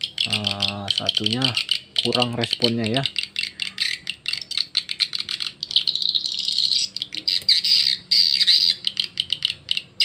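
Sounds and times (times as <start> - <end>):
recorded bird calls through speakers: 0.0 - 10.0.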